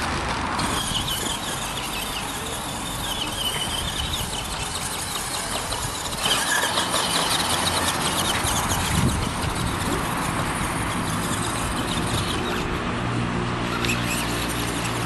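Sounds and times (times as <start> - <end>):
toy car electric motor whining: 0.0 - 12.8, 13.6 - 15.0.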